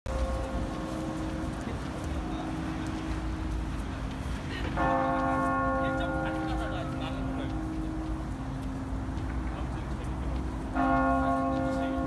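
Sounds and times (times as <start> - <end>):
church bell tolling: 0.1 - 3.6, 4.8 - 12.0.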